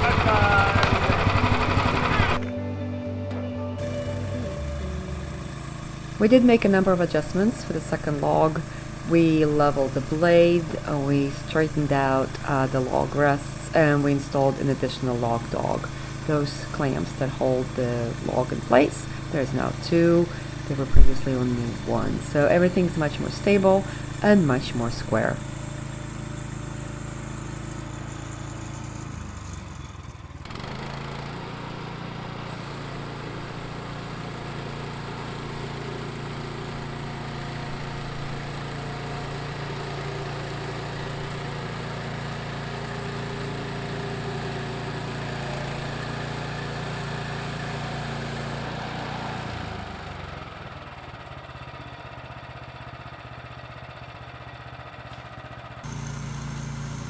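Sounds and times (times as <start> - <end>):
sawmill gasoline engine running: 0.0 - 2.5, 3.8 - 57.0.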